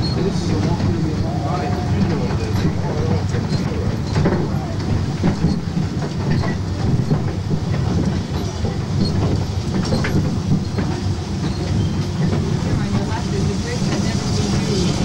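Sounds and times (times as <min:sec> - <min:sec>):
train car rumbling: 0:00.0 - 0:15.0.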